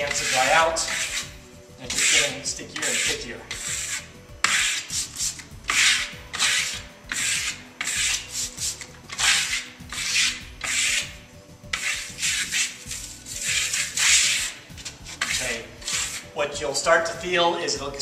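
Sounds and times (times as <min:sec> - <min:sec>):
trowel scraping wet plaster: 0:00.0 - 0:16.4.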